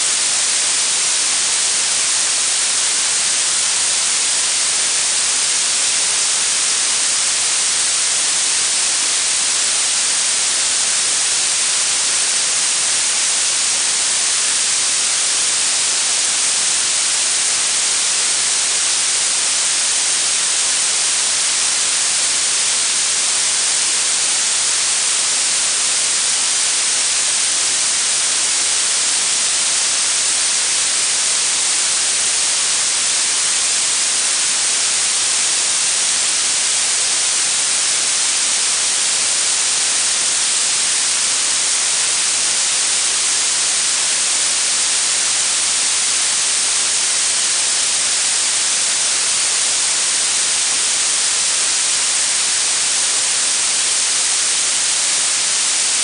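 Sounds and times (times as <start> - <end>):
high-pitched steady hiss: 0.0 - 56.0.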